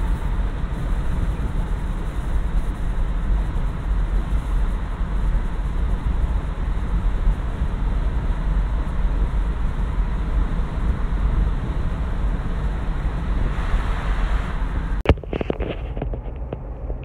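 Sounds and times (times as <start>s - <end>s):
wind and road noise in car: 0.0s - 17.0s.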